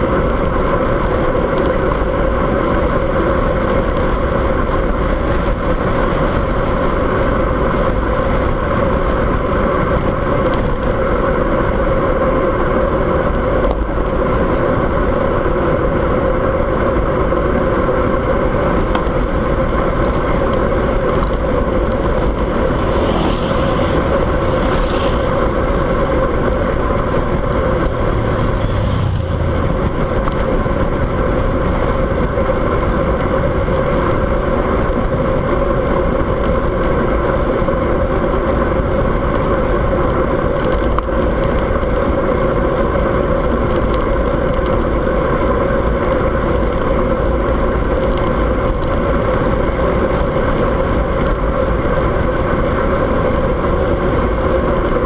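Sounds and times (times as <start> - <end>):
vehicle road and wind noise: 0.0 - 55.0.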